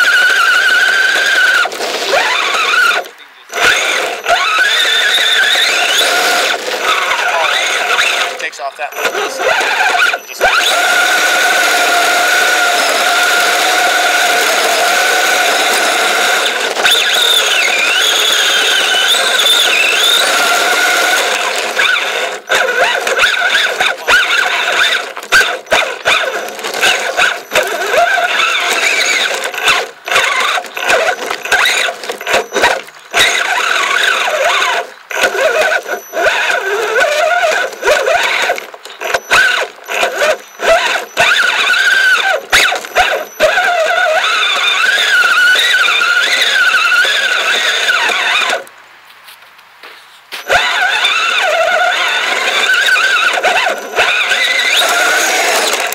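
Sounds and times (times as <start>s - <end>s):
electric motor whining: 0.0s - 48.7s, 50.3s - 55.9s.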